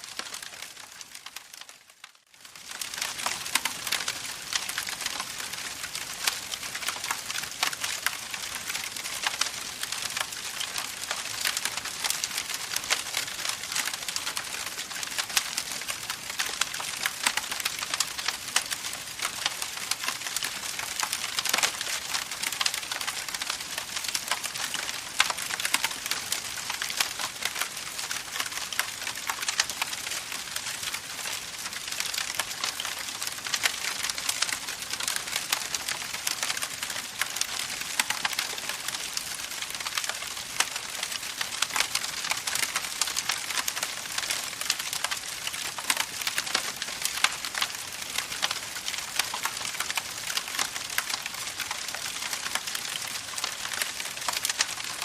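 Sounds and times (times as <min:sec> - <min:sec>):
campfire crackling: 0:02.4 - 0:55.0.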